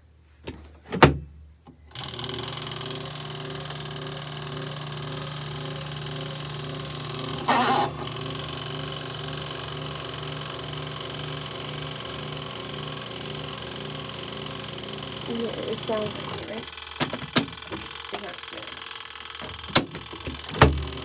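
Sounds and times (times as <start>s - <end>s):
washing machine motor humming: 1.9s - 21.0s.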